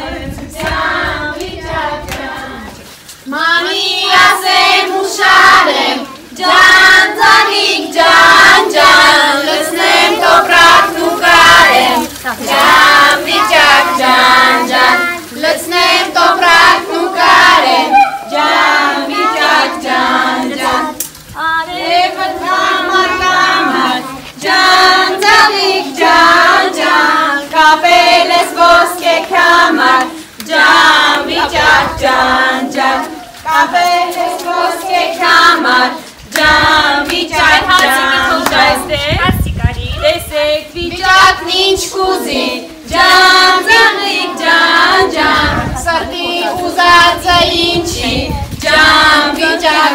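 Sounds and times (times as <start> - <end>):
children and women singing: 0.0 - 49.9.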